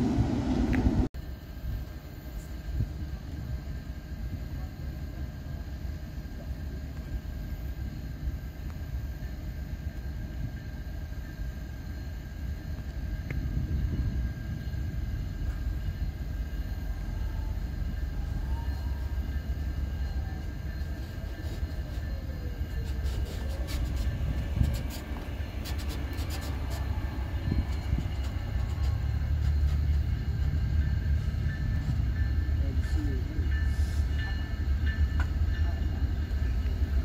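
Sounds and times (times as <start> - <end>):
diesel train rumbling: 0.0 - 37.0.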